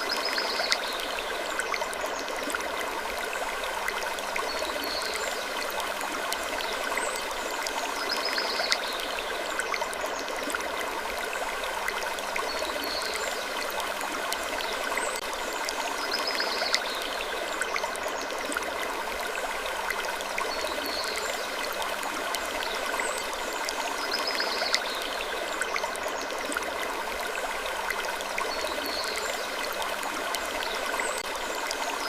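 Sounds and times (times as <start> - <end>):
trickling water: 0.0 - 32.0.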